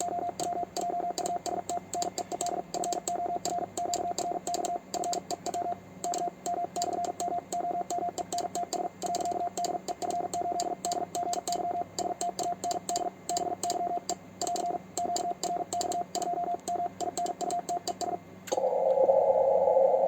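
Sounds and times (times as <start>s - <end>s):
morse code beeping: 0.0s - 18.2s.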